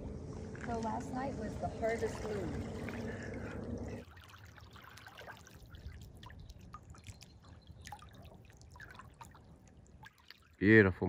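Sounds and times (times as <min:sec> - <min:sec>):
water lapping at shore: 0:00.0 - 0:11.0.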